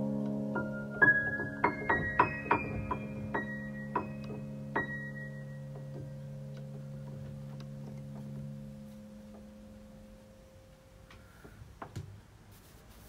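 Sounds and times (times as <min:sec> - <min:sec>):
piano chord ringing: 0:00.0 - 0:11.0.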